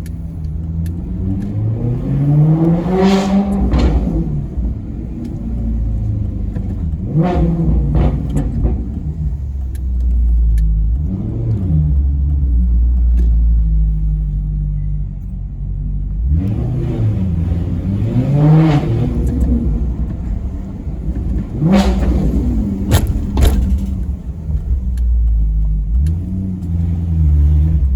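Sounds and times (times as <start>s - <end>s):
car engine revving: 0.0s - 14.4s, 15.9s - 27.9s.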